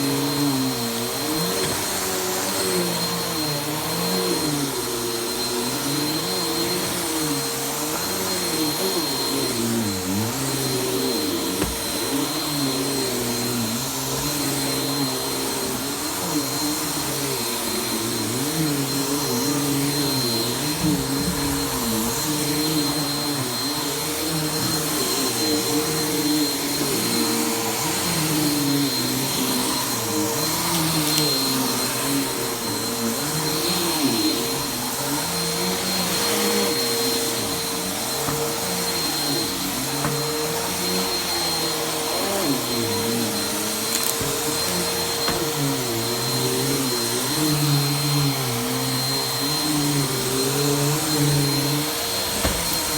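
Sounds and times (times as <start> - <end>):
vacuum cleaner running on carpet: 0.0 - 52.9.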